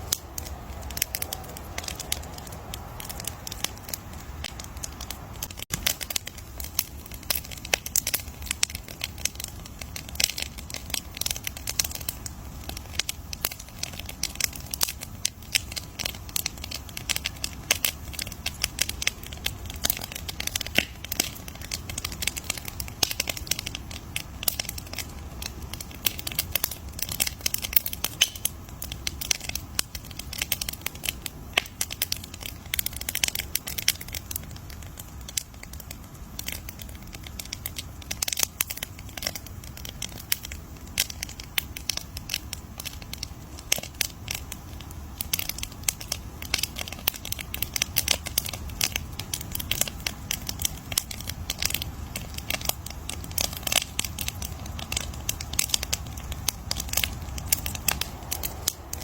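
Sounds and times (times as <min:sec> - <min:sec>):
burning wood popping and snapping: 0:00.0 - 0:59.0
low rumble of flames: 0:00.0 - 0:59.0.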